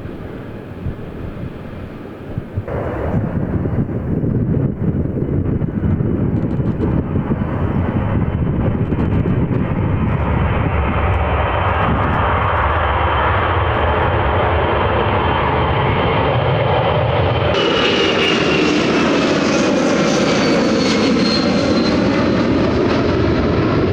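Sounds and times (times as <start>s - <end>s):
military aircraft engines roaring: 0.0s - 23.9s.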